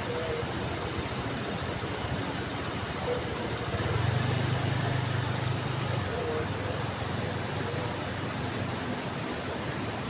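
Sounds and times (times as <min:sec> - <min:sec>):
low engine hum: 0:00.9 - 0:09.9.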